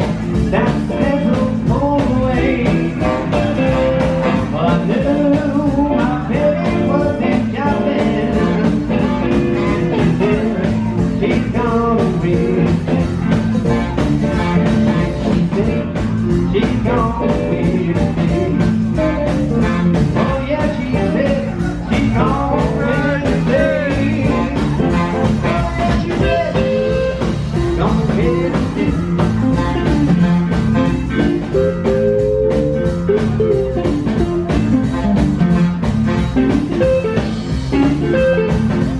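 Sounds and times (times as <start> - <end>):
drum kit: 0.0 - 38.9
electric guitar bending notes: 0.0 - 38.9
electric keyboard: 0.0 - 38.9
upright bass: 0.0 - 38.9.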